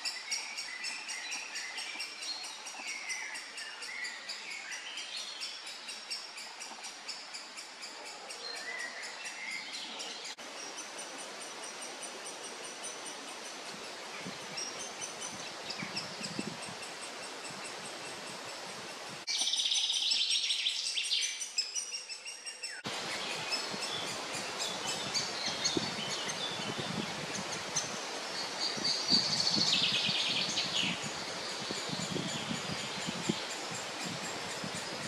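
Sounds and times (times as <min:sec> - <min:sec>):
woodland birdsong: 0:00.0 - 0:35.0.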